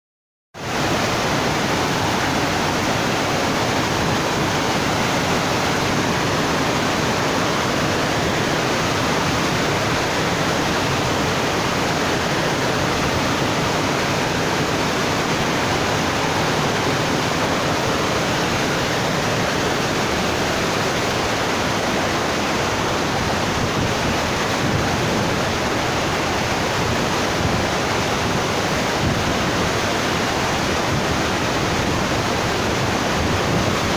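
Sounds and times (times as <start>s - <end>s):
rushing water: 0.6s - 33.9s.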